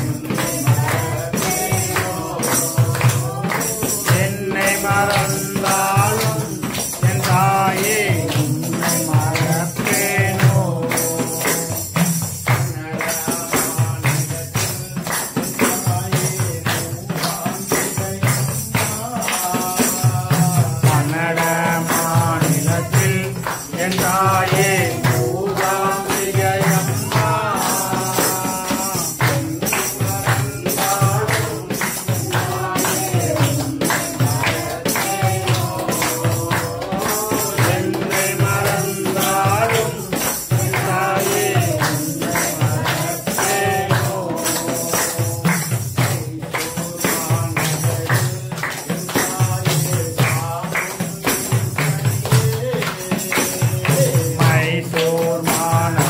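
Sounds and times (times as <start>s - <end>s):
devotional song singing: 0.0s - 56.0s
tambourine beat: 0.0s - 56.0s.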